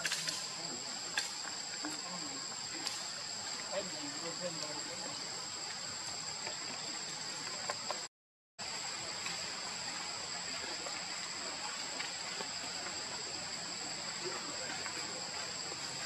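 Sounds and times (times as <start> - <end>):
even hiss: 0.0 - 16.0.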